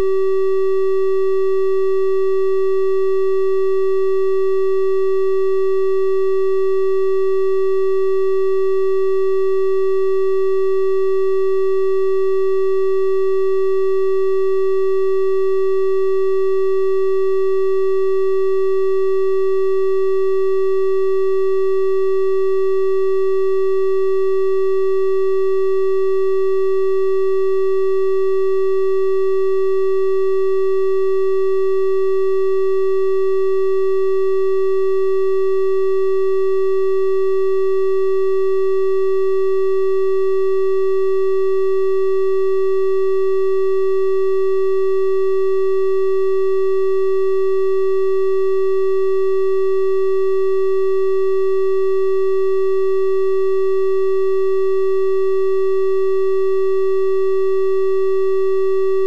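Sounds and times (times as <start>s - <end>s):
steady triangle-wave tone: 0.0s - 59.0s.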